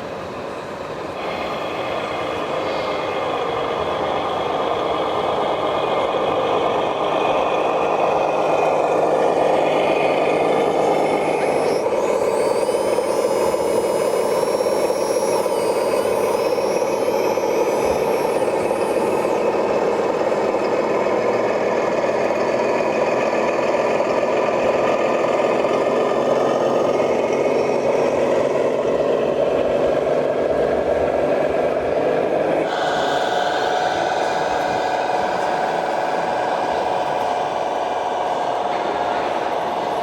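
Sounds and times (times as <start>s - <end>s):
model truck engine running: 0.0s - 40.0s
high whining tones: 1.1s - 40.0s.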